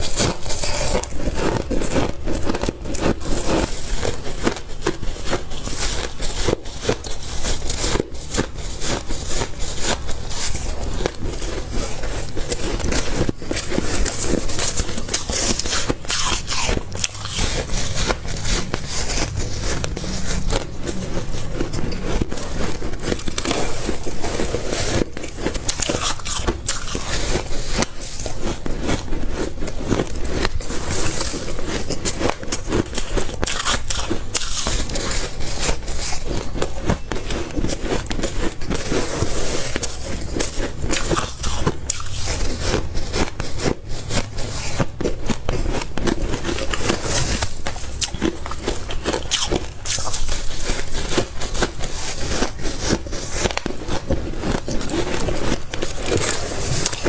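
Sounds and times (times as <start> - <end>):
chewing ice crunches: 0.0 - 57.0.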